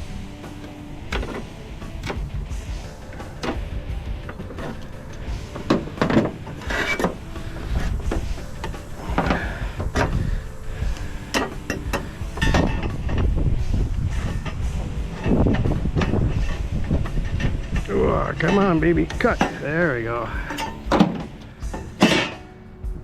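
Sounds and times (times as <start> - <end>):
steady low rumble: 0.0 - 22.0
metal parts clicking and scraping: 0.1 - 22.5.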